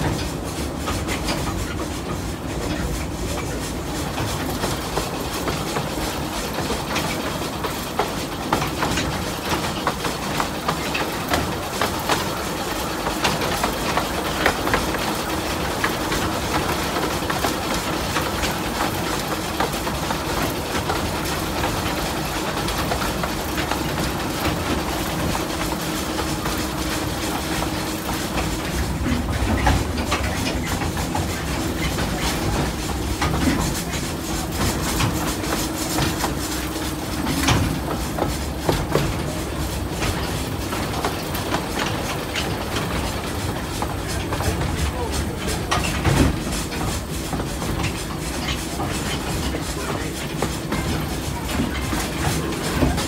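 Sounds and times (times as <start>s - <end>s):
rail joint clicks and rattles: 0.0s - 53.0s
train wheels rumbling on track: 0.0s - 53.0s.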